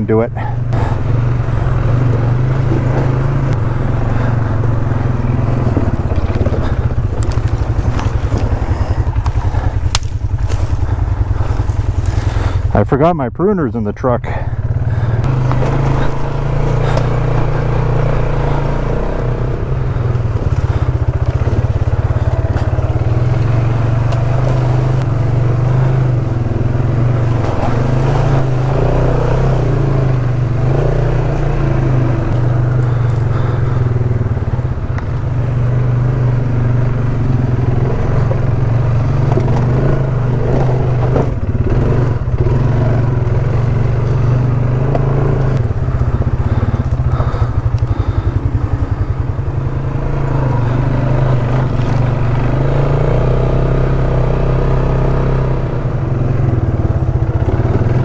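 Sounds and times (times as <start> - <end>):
atv engine running: 0.0 - 58.0
light clatter over ground: 0.4 - 12.8, 14.3 - 58.0.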